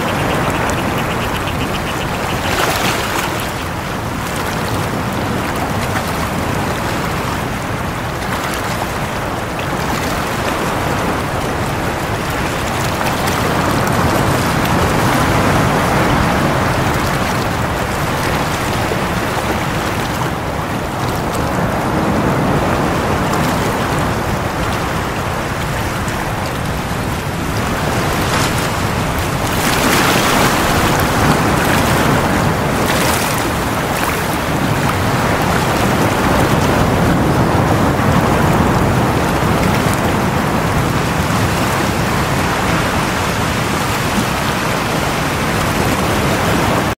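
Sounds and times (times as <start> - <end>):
waves breaking on rocky shore: 0.0 - 46.9.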